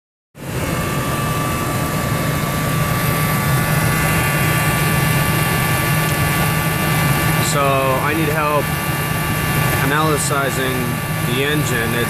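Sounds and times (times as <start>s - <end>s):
engine rumble: 0.4s - 12.0s.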